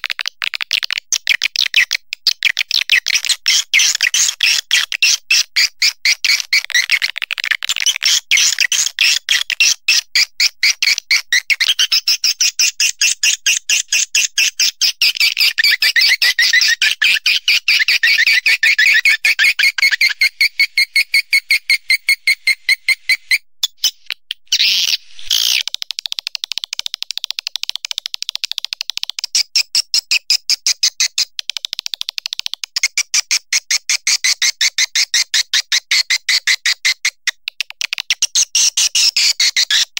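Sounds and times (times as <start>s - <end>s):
recorded bird chirping twitters: 0.0s - 39.9s.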